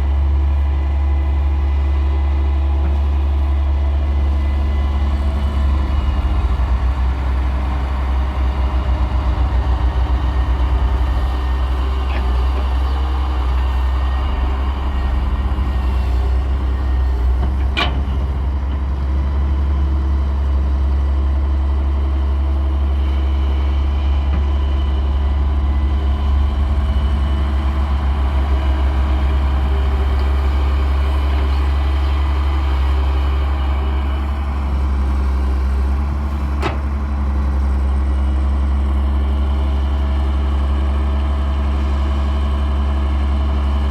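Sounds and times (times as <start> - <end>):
diesel engine droning: 0.0 - 43.9.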